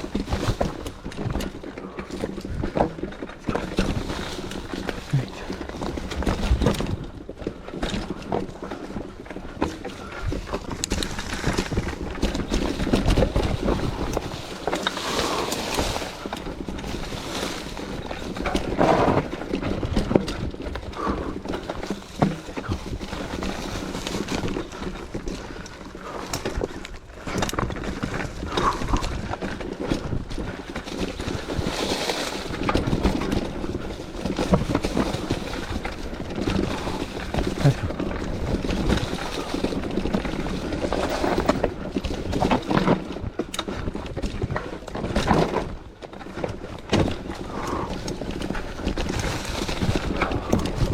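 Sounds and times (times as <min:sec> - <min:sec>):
bike clattering and rattling: 0:00.0 - 0:50.9
tyres rolling on dirt: 0:00.0 - 0:50.9.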